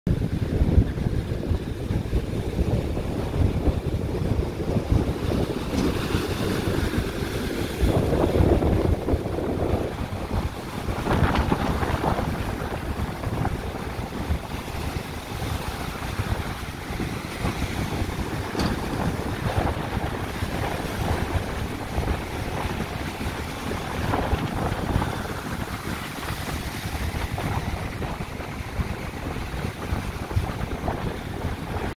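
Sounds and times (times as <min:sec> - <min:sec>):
wind buffeting microphone: 0:00.1 - 0:32.0
waves crashing: 0:00.2 - 0:31.9.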